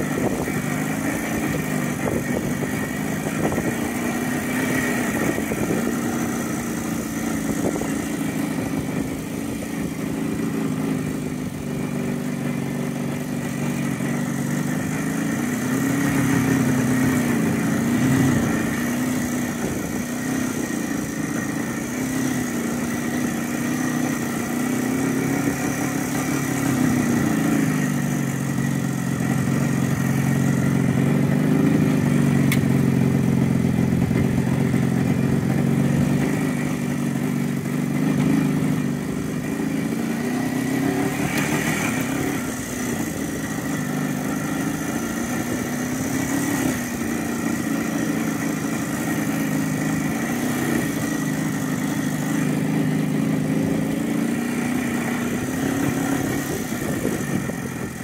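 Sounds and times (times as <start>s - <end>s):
motor engine running: 0.0s - 58.0s.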